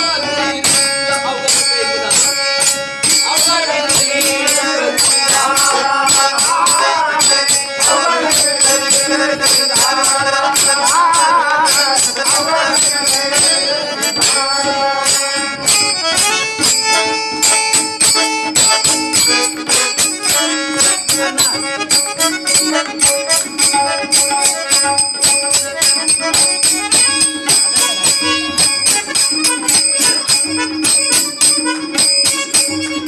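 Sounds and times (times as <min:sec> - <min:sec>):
jingling percussion: 0:00.0 - 0:33.0
wavering melody line: 0:00.0 - 0:33.0.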